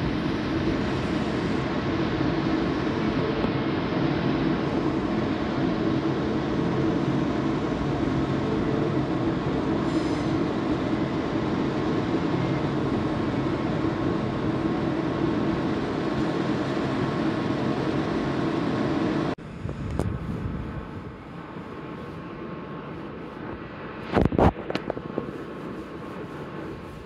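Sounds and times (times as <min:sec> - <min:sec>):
trains rumbling and humming: 0:00.0 - 0:27.0.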